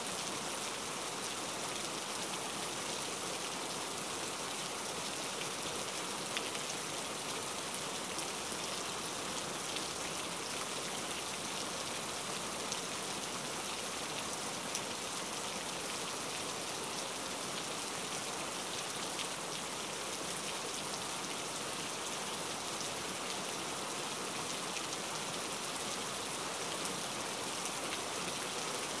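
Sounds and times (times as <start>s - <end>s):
rain-like hiss: 0.0s - 29.0s.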